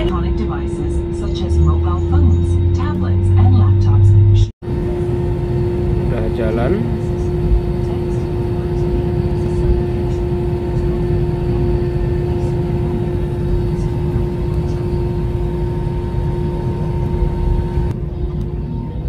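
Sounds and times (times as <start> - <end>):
constant droning tone: 0.0 - 19.0
jet engine cabin rumble: 0.0 - 19.0.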